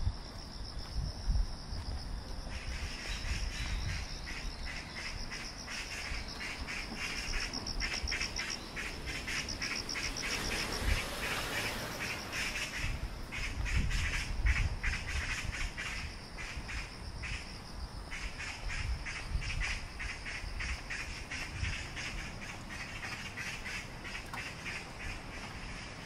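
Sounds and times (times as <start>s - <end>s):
insect pulsing call: 0.0s - 26.0s
insects high-pitched trill: 0.0s - 26.0s.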